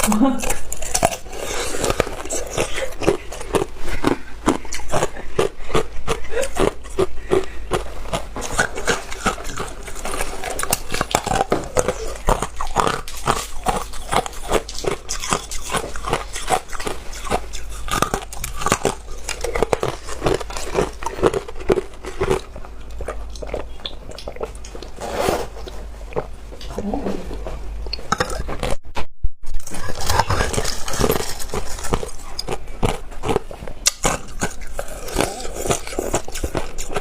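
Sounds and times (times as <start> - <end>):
person chewing ice: 0.0 - 26.7, 27.3 - 28.8, 29.6 - 37.0.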